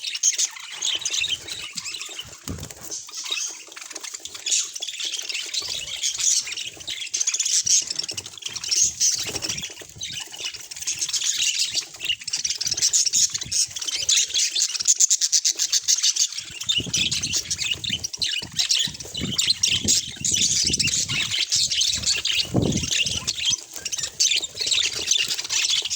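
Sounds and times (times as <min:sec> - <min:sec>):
budgerigars chattering: 0:00.0 - 0:25.9.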